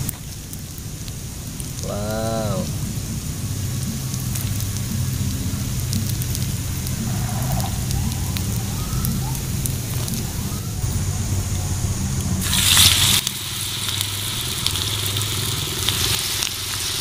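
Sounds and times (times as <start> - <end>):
low rumble: 0.0 - 16.2
rain pattering on leaves: 0.0 - 17.0.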